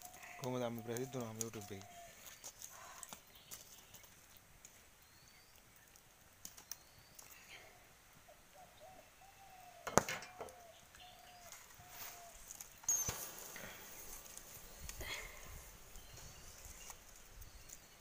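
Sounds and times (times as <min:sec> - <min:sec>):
wood fire crackling and popping: 0:00.0 - 0:07.6, 0:09.8 - 0:18.0
faint bird chirps: 0:00.0 - 0:18.0.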